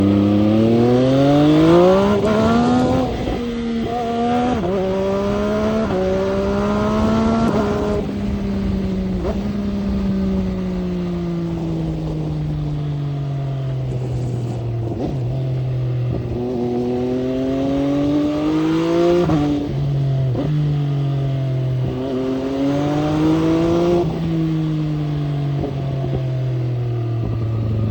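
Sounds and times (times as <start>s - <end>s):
motorcycle engine accelerating through gears: 0.0s - 27.9s.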